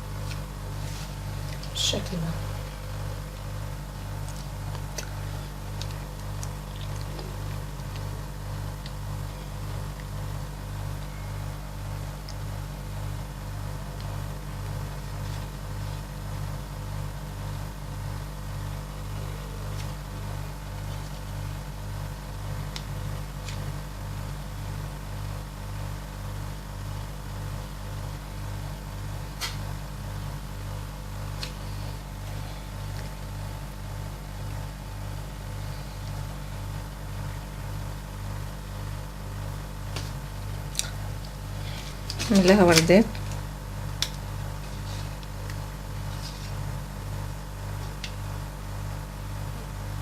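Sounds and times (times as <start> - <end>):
low pulsing hum: 0.0 - 50.0.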